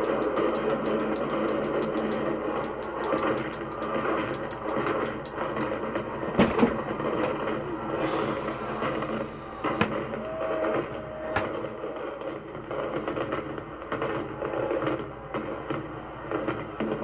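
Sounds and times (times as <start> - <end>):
demolition explosions rumbling: 0.0 - 14.5
sharp explosive cracks: 0.0 - 15.7.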